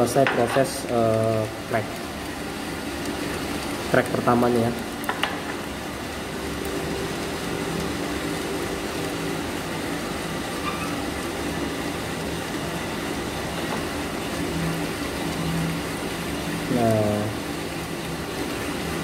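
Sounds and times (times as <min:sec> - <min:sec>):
coffee roaster mechanical rumble: 0:00.0 - 0:19.0.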